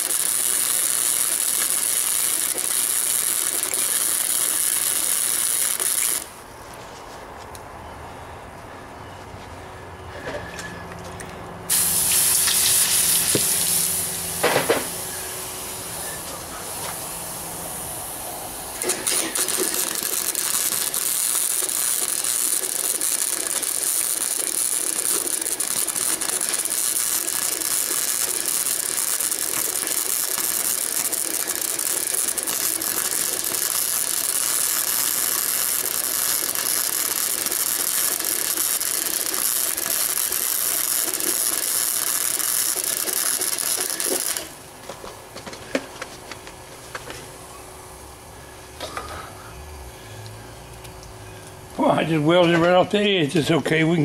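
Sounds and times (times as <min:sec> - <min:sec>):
arc welder crackling: 0:00.0 - 0:06.8, 0:11.7 - 0:48.2.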